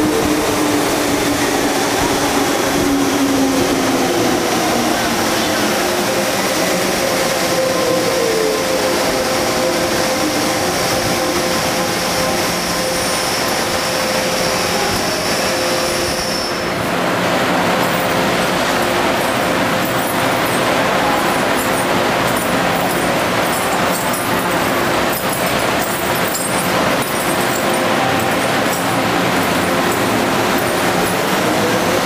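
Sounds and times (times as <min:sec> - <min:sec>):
train wheel and rail rushing: 0:00.0 - 0:32.0.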